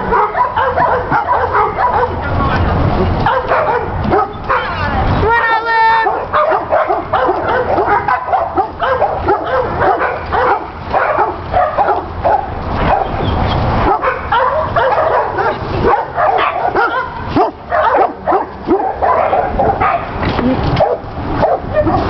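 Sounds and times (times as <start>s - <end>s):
dogs barking and yipping: 0.0s - 2.4s, 3.1s - 22.0s.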